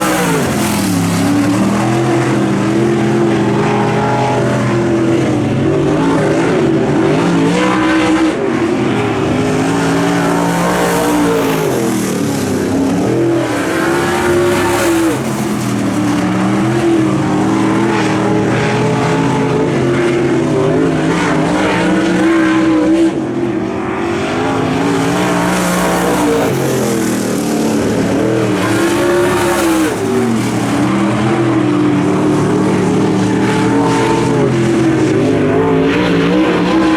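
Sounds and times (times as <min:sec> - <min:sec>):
race car engine revving: 0:00.0 - 0:36.9.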